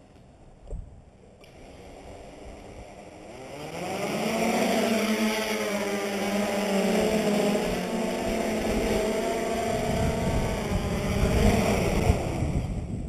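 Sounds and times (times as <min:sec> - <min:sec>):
drone motors whining: 0:01.2 - 0:13.0.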